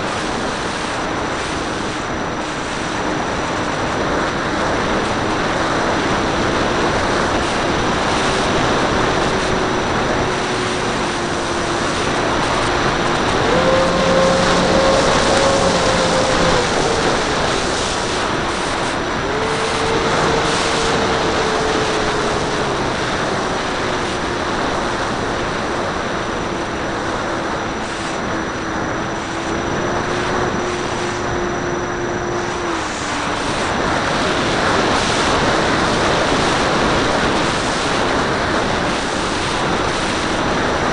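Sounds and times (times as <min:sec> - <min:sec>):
electric motors and propellers whining: 0:00.0 - 0:40.9
wind rushing over camera: 0:00.0 - 0:40.9.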